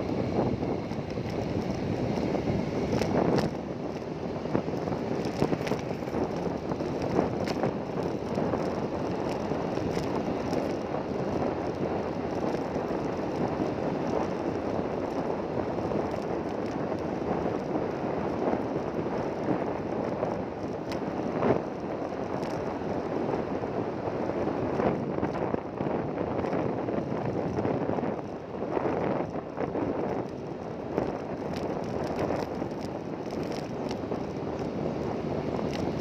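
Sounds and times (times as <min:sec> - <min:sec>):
wind on microphone: 0:00.0 - 0:36.0.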